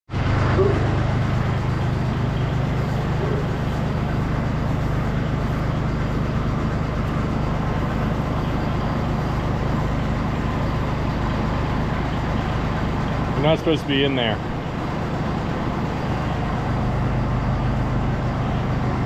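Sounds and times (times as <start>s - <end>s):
road noise: 0.1s - 19.0s
vehicle engine running: 0.1s - 19.0s.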